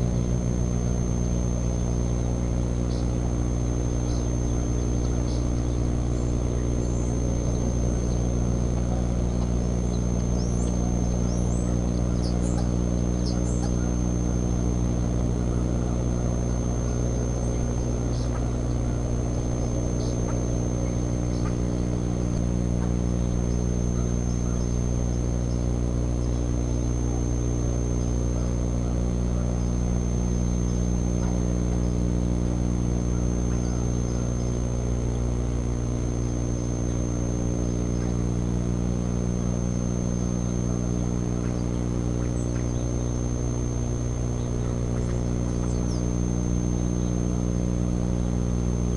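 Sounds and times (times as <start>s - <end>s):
high-pitched whine: 0.0s - 48.9s
low hum of stacked tones: 0.0s - 48.9s.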